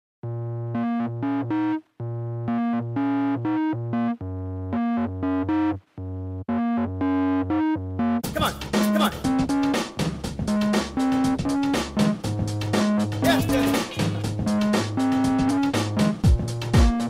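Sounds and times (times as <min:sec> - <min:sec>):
synthesizer keyboard riff: 0:00.2 - 0:17.0.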